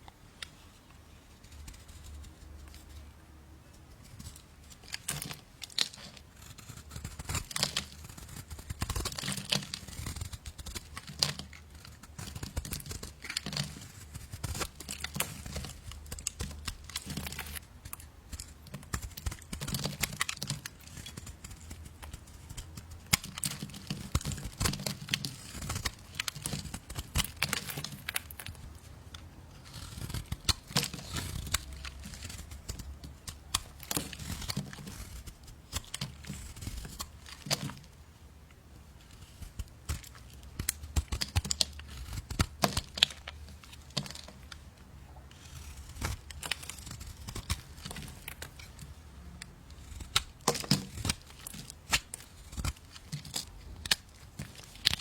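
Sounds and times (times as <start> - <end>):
material crackling and tearing: 0.5 - 3.1, 4.0 - 38.0, 39.0 - 55.0.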